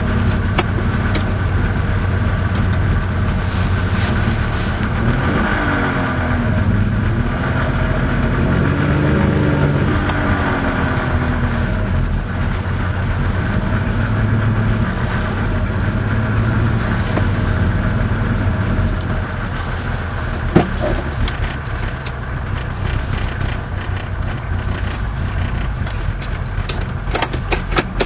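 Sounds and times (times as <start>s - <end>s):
two-stroke engine idling: 0.0s - 5.2s, 9.8s - 28.0s.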